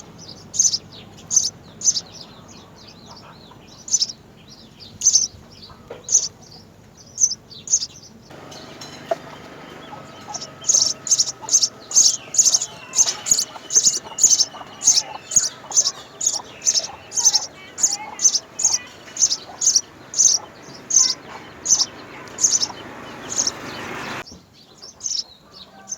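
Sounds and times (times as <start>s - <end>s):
sparrows chirping: 0.0s - 25.9s.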